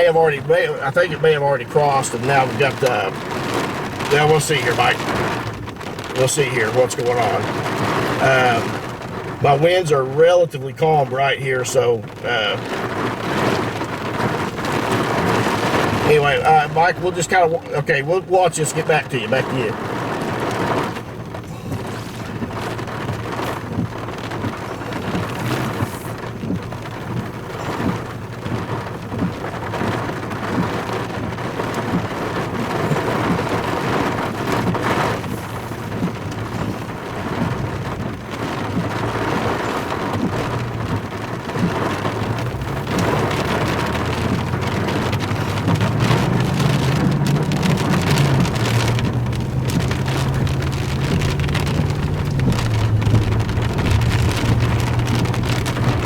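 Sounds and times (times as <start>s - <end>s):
rain pattering on vehicle roof: 0.0s - 56.0s
vehicle engine humming: 0.0s - 56.0s.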